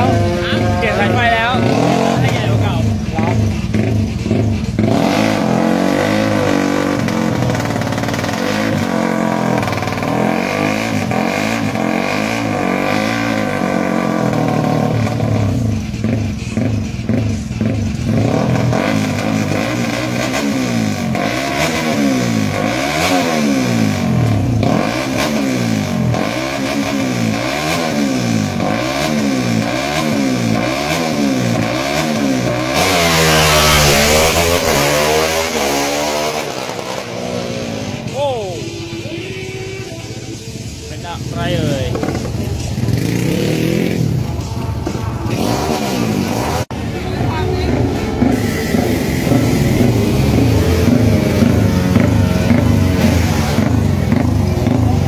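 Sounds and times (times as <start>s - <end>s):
motorcycle engines revving: 0.0s - 55.0s
motorcycles launching: 0.0s - 55.0s.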